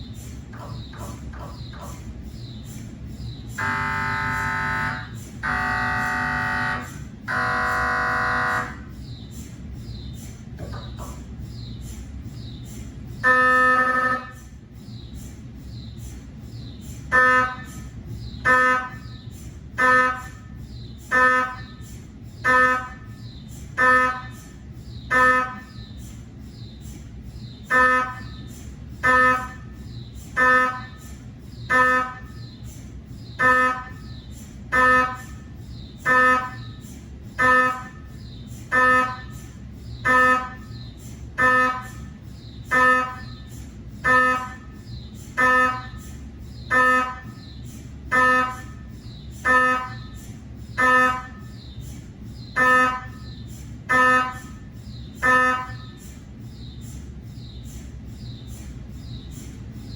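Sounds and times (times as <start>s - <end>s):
mri scanner buzzing bursts: 0.0s - 59.9s
steady low hum: 0.0s - 59.9s.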